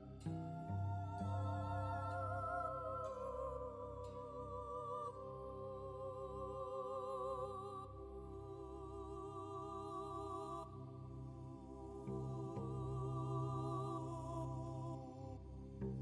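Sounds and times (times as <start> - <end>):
slow sustained music tones: 0.0 - 16.0.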